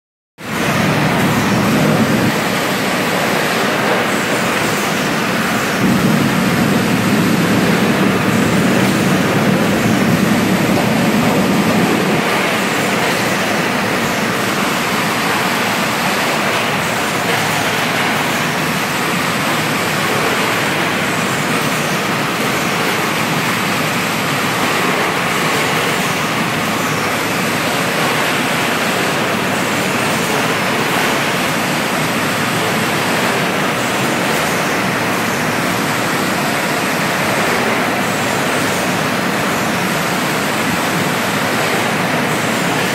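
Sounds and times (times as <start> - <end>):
bottle machinery rushing noise: 0.4 - 42.9.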